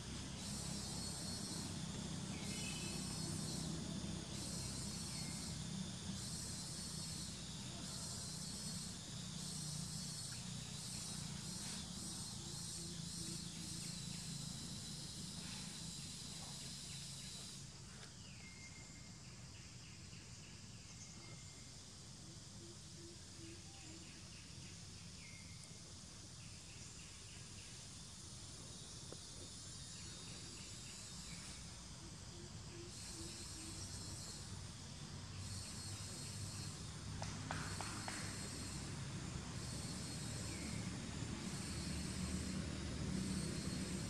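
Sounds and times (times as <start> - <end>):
insects droning: 0.0 - 44.0.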